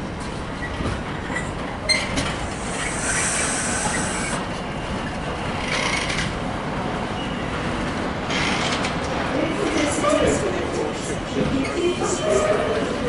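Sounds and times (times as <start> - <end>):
train wheels clattering on rails: 0.0 - 6.4, 7.5 - 13.0.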